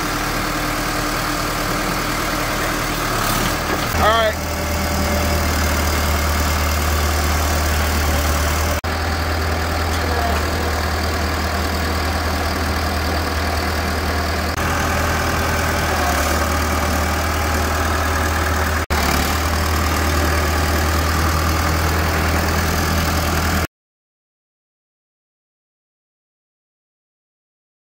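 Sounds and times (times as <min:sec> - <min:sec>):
tractor engine idling: 0:00.0 - 0:23.7.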